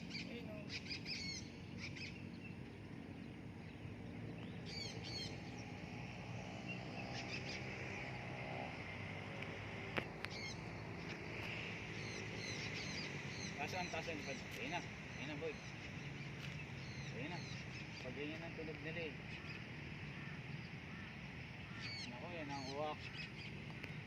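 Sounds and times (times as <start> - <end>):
birds chirping: 0.0 - 24.0
steady outdoor hiss: 0.0 - 24.0.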